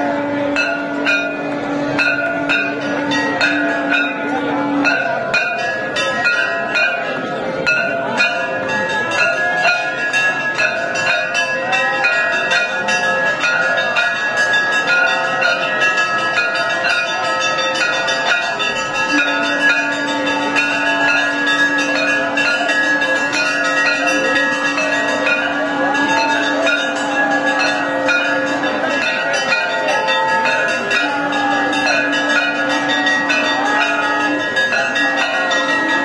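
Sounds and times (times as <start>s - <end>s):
bells ringing continuously: 0.0s - 36.0s.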